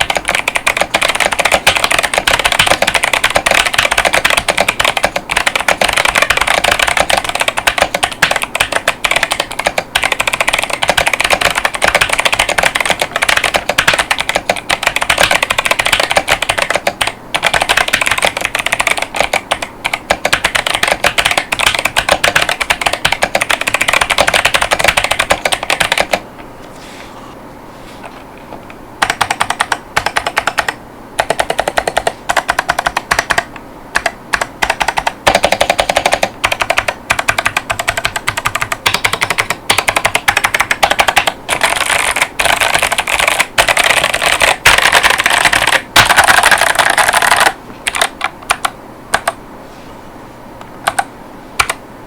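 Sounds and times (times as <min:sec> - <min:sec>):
fast typing on mechanical keyboard: 0:00.0 - 0:26.2, 0:29.0 - 0:49.4, 0:50.8 - 0:51.8.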